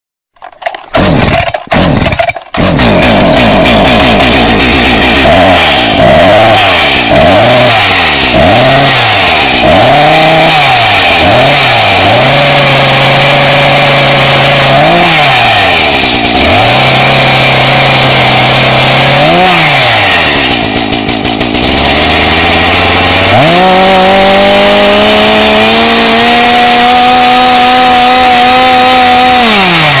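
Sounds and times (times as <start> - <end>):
chainsaw engine revving: 0.4 - 30.0.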